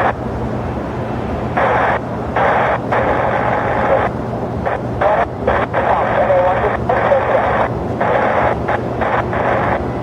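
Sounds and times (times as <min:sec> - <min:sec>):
radio static hiss: 0:00.0 - 0:00.2, 0:01.5 - 0:10.0
steady low hum: 0:00.0 - 0:10.0.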